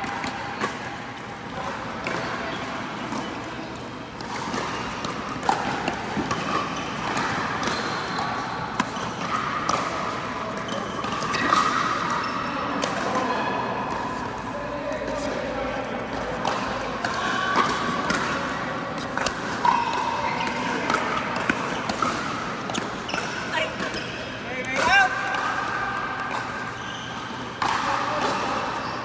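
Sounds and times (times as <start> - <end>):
ball bouncing on court: 0.0 - 15.3, 16.1 - 29.0.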